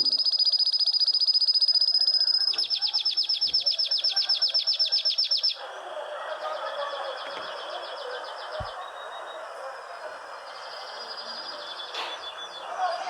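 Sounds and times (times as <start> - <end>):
small birds trilling: 0.0 - 13.0.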